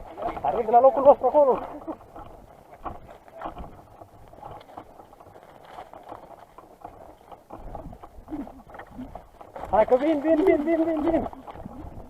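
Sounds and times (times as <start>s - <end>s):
footsteps on outdoor ground: 0.0s - 12.0s.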